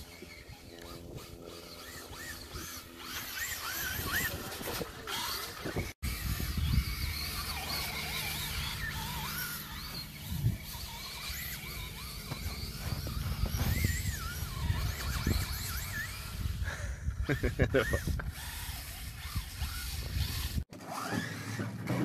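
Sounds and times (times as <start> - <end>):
toy truck electric motor whining: 0.0 - 22.0.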